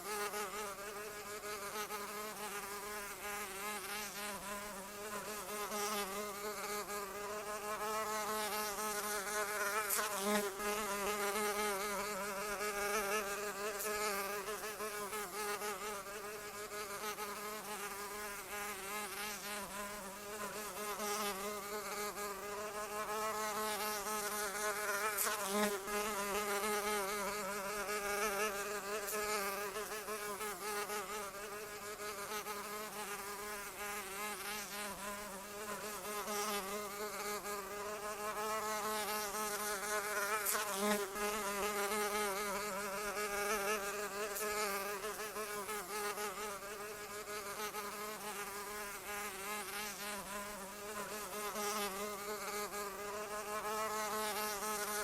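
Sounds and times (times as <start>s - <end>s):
insect wings buzzing: 0.0s - 55.0s.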